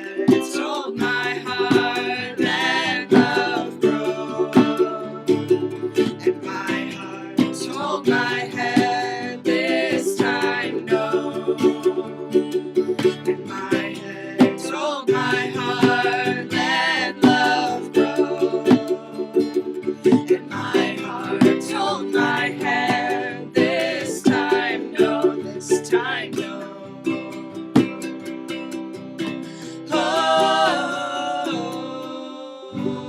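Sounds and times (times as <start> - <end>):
acoustic string instruments strummed: 0.0 - 33.0.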